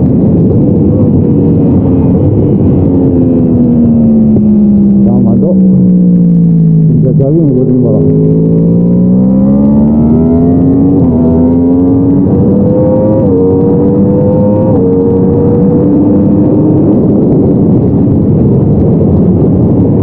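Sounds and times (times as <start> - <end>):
motorcycle engine accelerating: 0.0 - 20.0
wind rush: 0.0 - 20.0.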